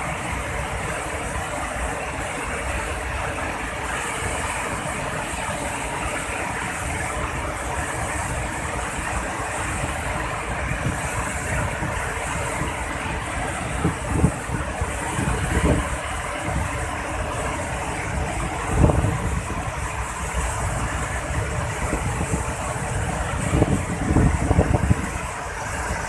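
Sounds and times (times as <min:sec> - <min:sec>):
waterfall roaring: 0:00.0 - 0:26.0
wind buffets on microphone: 0:00.0 - 0:26.0.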